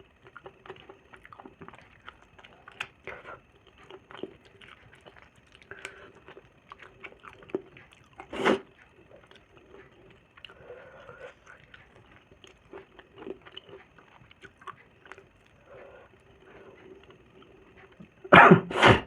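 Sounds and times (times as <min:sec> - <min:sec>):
wet chewing and mouth smacks: 0:00.0 - 0:18.3.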